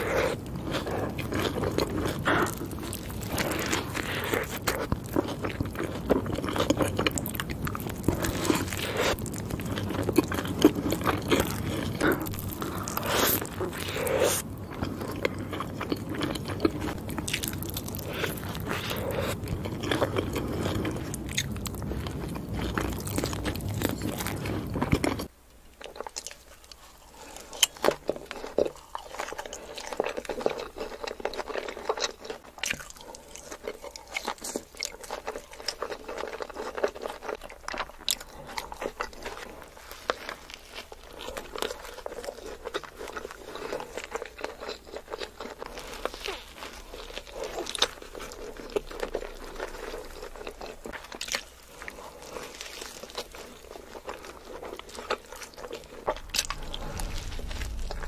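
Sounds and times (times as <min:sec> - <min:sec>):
wet chewing and crunchy bites: 0:00.0 - 0:58.0.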